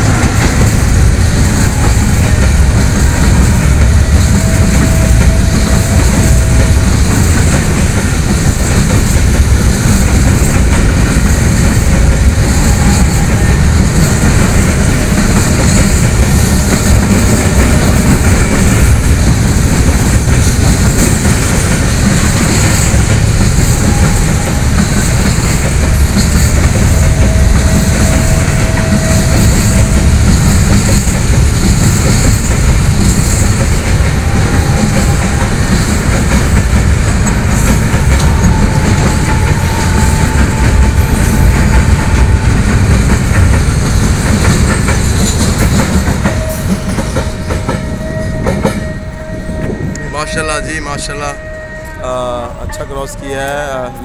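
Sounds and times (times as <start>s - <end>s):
wheels clacking over rail joints: 0.0s - 49.0s
train wheels rumbling and rattling: 0.0s - 54.0s.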